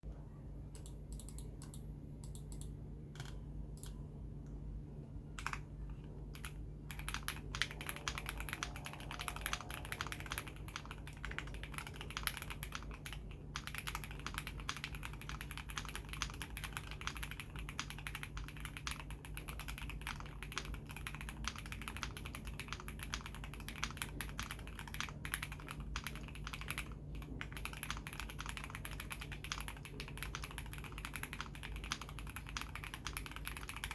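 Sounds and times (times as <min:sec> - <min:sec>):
mechanical keyboard typing: 0:00.8 - 0:04.0, 0:05.4 - 0:05.7, 0:06.3 - 0:33.9.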